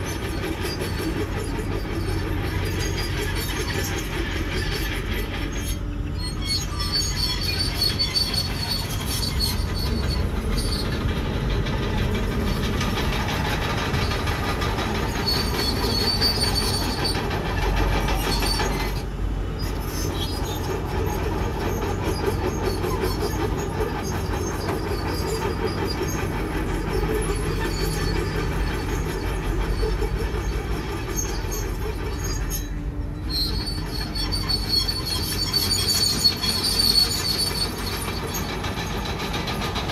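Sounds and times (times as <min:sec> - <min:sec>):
diesel engine running: 0:00.0 - 0:39.9
high squeal of tracks: 0:00.0 - 0:39.9
steel tracks clanking: 0:00.0 - 0:39.9.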